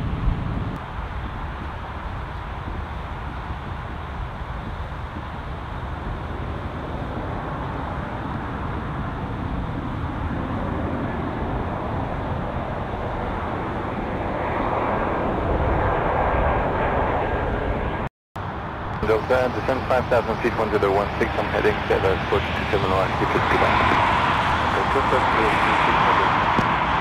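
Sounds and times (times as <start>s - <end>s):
jet airliner engine roar: 0.0s - 27.0s.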